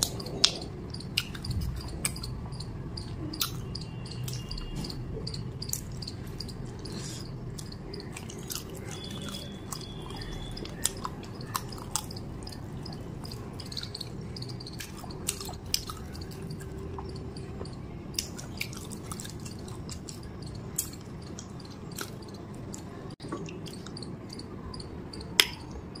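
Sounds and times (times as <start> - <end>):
close chewing: 0.0 - 24.4
low background hum: 0.0 - 26.0.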